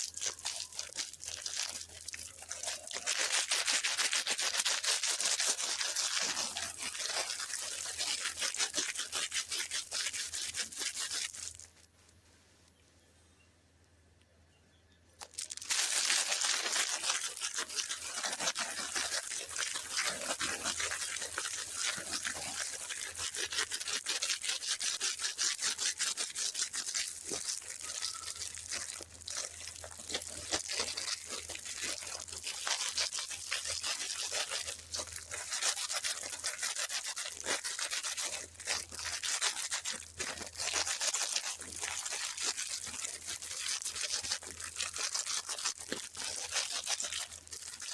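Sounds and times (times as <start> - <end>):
packaging crinkling: 0.0 - 12.0, 15.2 - 47.9.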